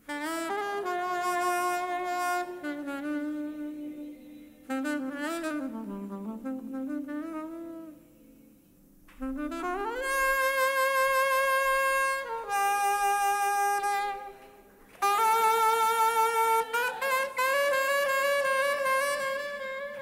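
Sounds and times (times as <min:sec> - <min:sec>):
solo saxophone: 0:00.0 - 0:20.0.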